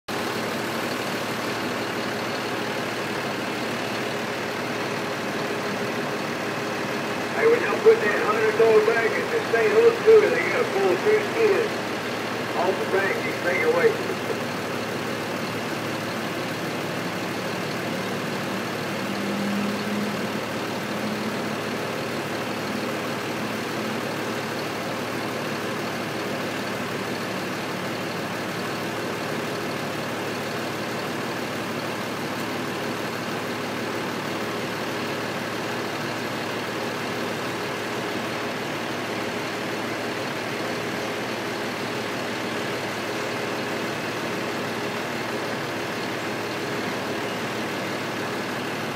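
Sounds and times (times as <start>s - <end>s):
steady mechanical drone: 0.1s - 48.9s.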